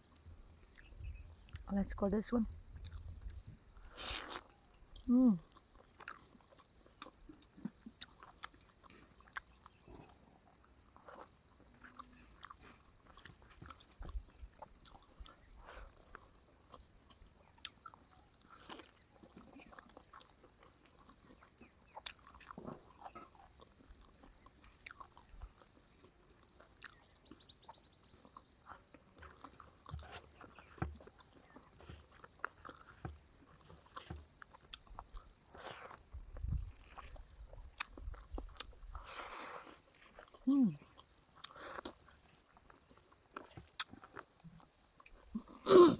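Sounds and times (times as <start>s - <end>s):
person chewing: 0.1s - 1.7s, 2.6s - 45.8s.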